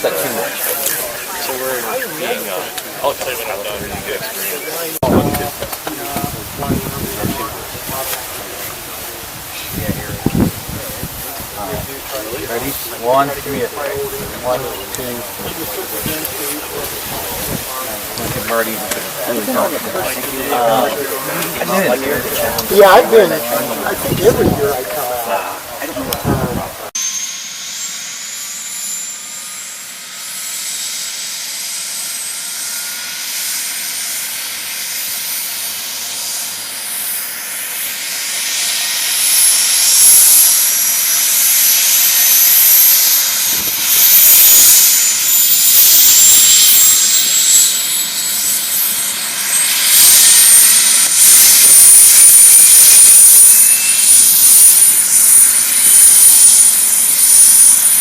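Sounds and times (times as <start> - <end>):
helicopter turbine whine: 0.0 - 58.0.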